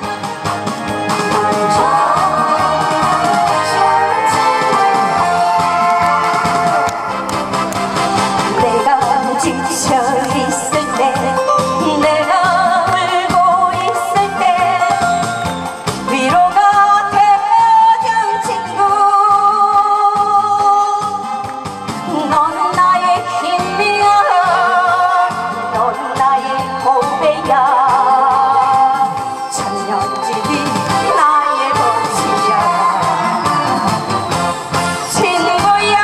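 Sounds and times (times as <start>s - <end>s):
amplified accompaniment with beat: 0.0s - 17.8s, 20.6s - 36.0s
woman singing into microphone: 1.2s - 7.2s, 8.6s - 15.2s, 16.1s - 21.4s, 22.0s - 34.2s, 35.0s - 36.0s.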